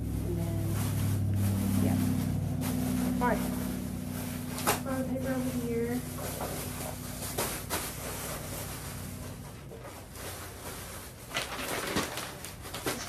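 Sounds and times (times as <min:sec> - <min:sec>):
paper and plastic bag rustling: 0:00.0 - 0:13.0.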